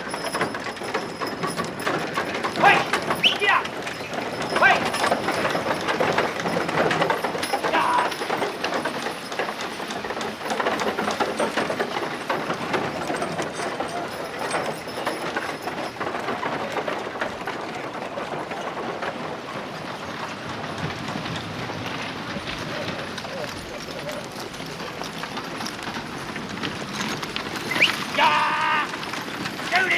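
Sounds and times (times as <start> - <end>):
carriage wheels rolling: 0.0 - 29.9
horse hooves clattering: 0.0 - 29.9.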